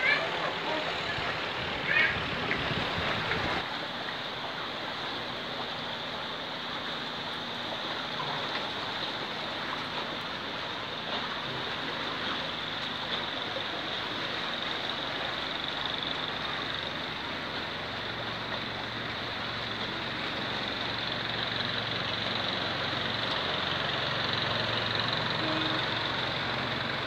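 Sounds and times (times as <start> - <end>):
fast-flowing river rushing: 0.0 - 27.0.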